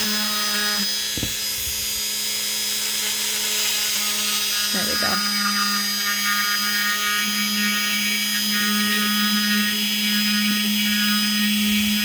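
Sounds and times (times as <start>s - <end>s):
bit grinding crystal: 0.0s - 12.0s
rotary tool whine: 0.0s - 12.0s.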